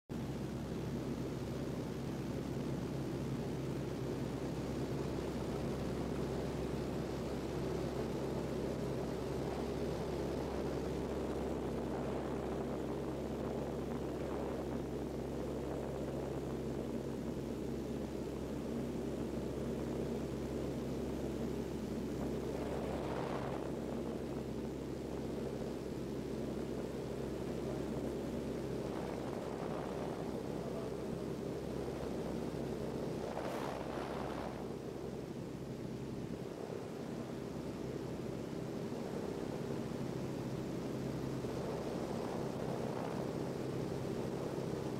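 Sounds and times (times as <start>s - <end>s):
aircraft engine and propeller drone: 0.1s - 44.9s
rushing wind noise: 0.2s - 44.9s.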